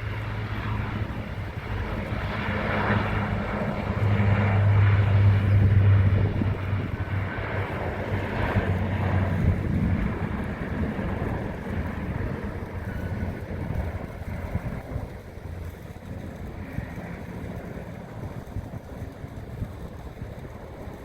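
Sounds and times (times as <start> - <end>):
jet airliner roar: 0.0 - 21.0
wind on microphone: 0.0 - 21.0.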